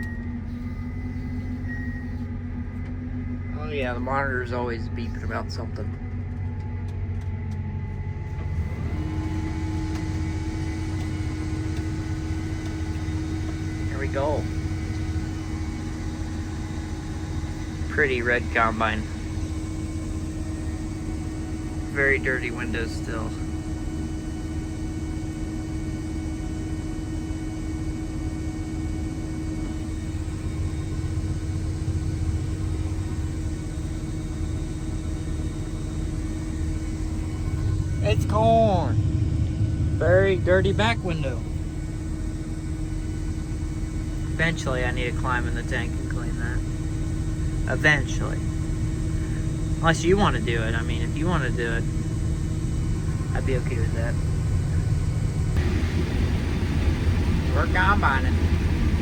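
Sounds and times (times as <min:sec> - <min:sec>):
combine harvester hum: 0:00.0 - 0:59.0
steady hum: 0:00.0 - 0:59.0.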